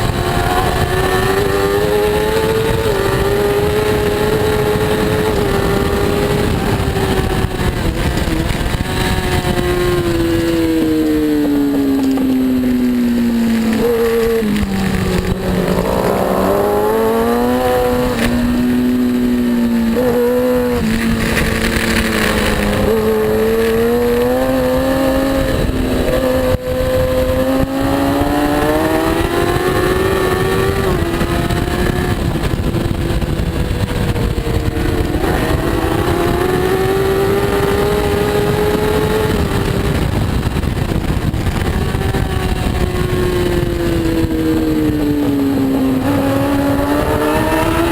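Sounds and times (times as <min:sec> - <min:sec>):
racing motorcycle engine revving: 0:00.0 - 0:47.9.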